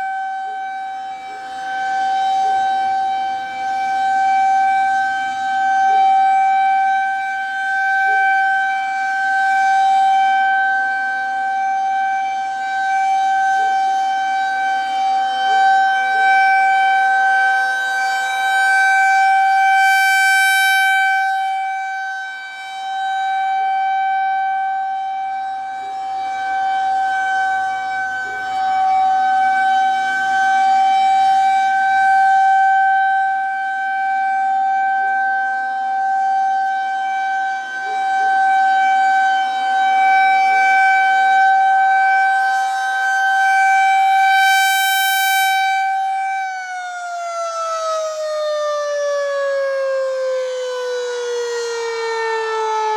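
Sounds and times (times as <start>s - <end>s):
warning siren steady tone: 0.0s - 52.9s.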